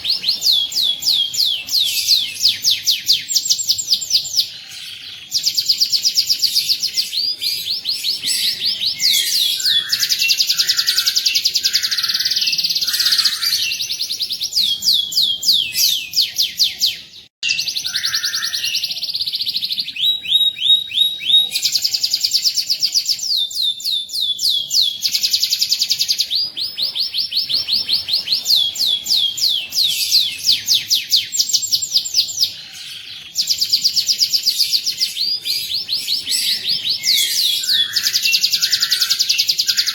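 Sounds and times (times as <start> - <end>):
canary singing trilled song: 0.0 - 39.9.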